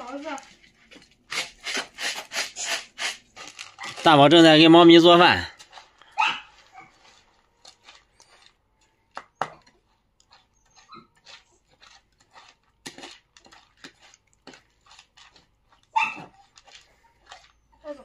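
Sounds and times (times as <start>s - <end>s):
spoon scraping plastic bowl: 0.0s - 18.0s.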